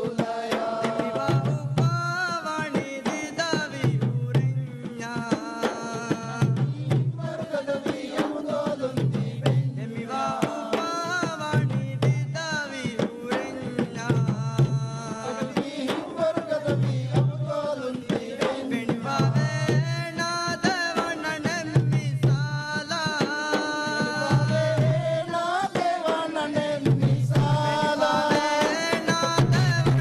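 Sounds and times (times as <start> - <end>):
drums beating fast rhythm: 0.0 - 30.0
men singing a chanted song: 0.0 - 30.0.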